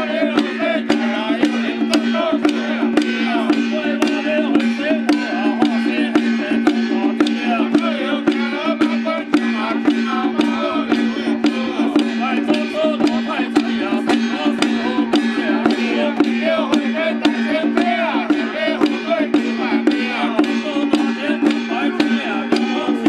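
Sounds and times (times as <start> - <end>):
drum and percussion strikes: 0.0 - 23.0.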